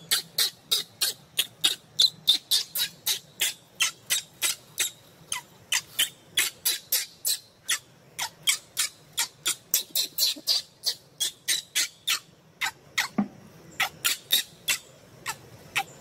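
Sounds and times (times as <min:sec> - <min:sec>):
baby monkey screaming: 0:00.0 - 0:16.0.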